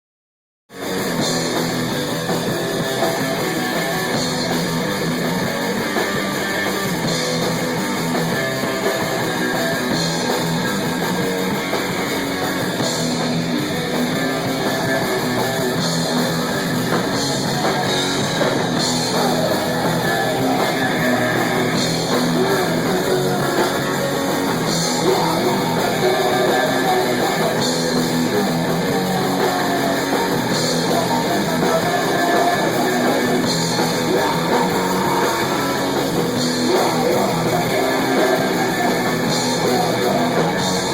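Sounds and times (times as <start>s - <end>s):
drum kit playing: 0.7s - 40.9s
electric guitar playing: 0.8s - 40.9s.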